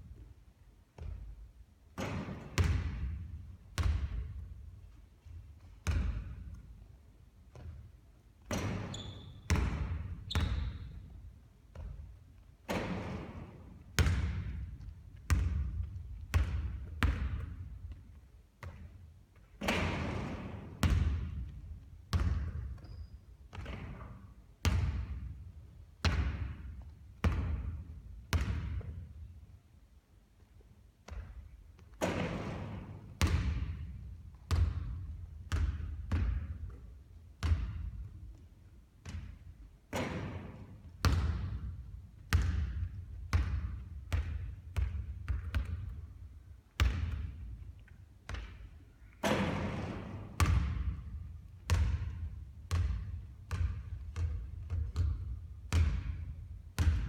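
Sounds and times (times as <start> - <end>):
basketball banging with echo: 0.9 - 29.3, 31.0 - 38.4, 39.0 - 57.0.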